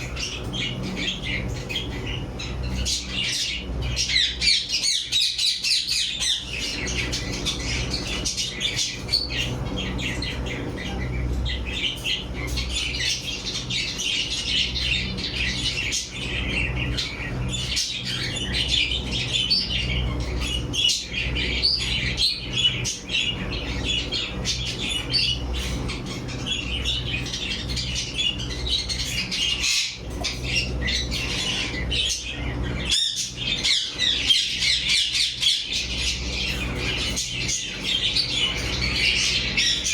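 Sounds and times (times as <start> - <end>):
parrots chattering and squawking: 0.0 - 39.9
steady low hum: 0.0 - 39.9.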